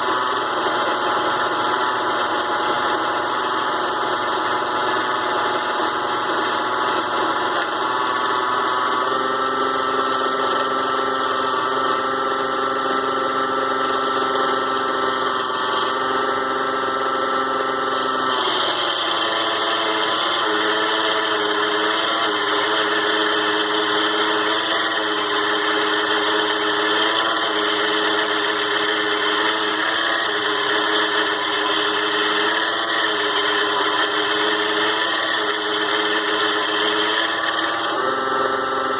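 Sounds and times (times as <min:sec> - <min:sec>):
lathe motor whining: 0:00.0 - 0:38.9.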